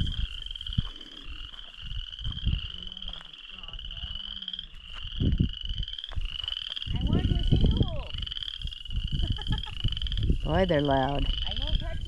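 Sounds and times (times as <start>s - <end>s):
low rumbling thumps: 0.0s - 3.0s, 5.0s - 12.0s
frogs trilling: 0.0s - 12.0s.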